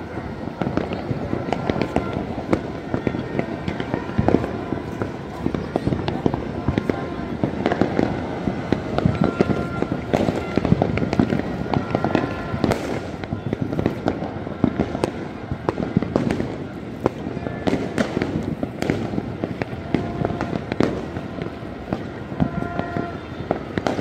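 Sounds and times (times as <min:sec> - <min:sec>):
fireworks and firecrackers crackling: 0:00.0 - 0:24.0.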